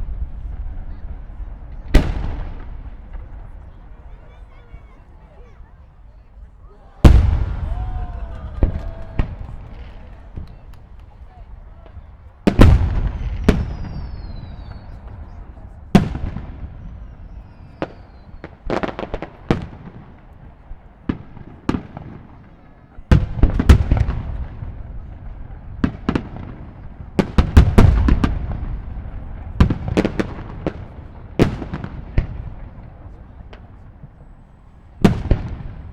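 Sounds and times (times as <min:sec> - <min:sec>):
fireworks bursting: 0:00.0 - 0:35.9
low rolling echo: 0:00.0 - 0:35.9.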